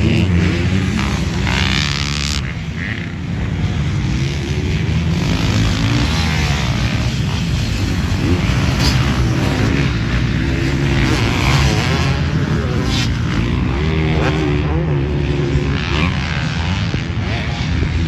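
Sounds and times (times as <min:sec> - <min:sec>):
dirt bike engines racing: 0:00.0 - 0:18.0.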